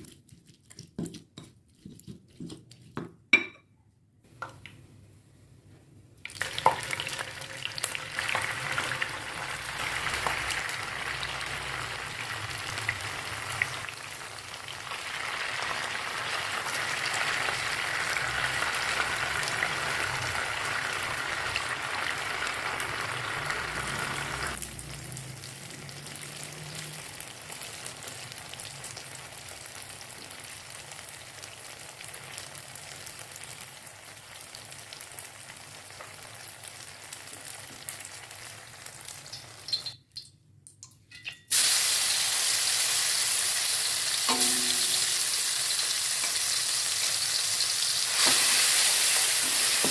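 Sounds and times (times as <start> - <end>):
food frying in hot oil: 6.3 - 40.0, 41.5 - 49.9.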